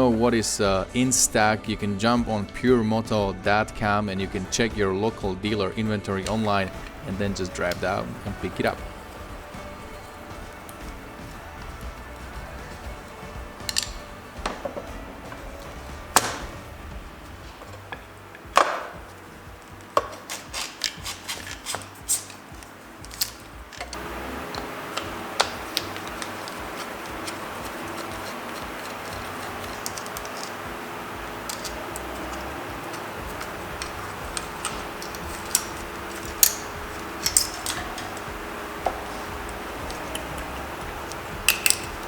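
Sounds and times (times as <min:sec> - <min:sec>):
hand tools and metal parts knocking: 0:06.3 - 0:42.0.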